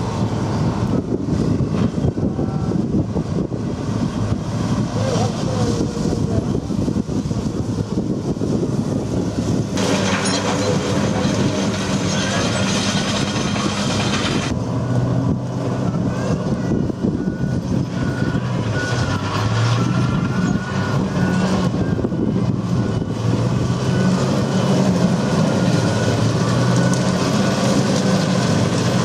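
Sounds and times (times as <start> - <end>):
vehicle engine droning: 0.0 - 29.0.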